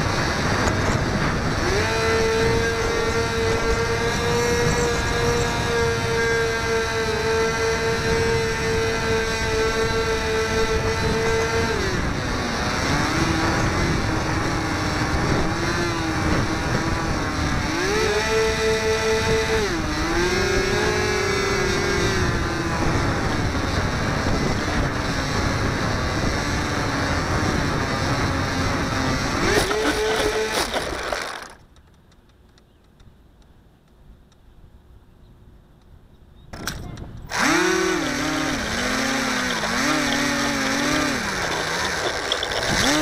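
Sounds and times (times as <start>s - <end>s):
wind noise: 0.0s - 31.5s, 36.7s - 43.0s
electric motor propeller whine: 0.0s - 31.6s, 37.3s - 43.0s.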